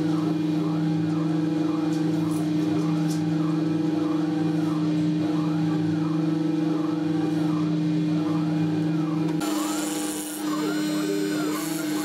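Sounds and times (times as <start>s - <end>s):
cnc router whine: 0.0s - 12.0s.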